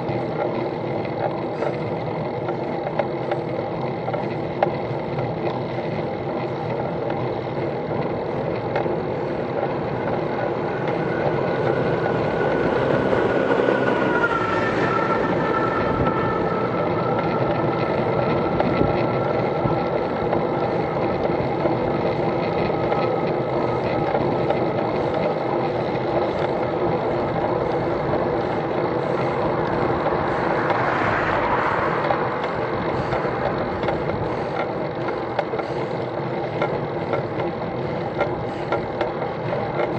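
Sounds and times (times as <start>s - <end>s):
wind and road noise: 0.0s - 39.9s
motor vehicle passing: 7.5s - 39.9s.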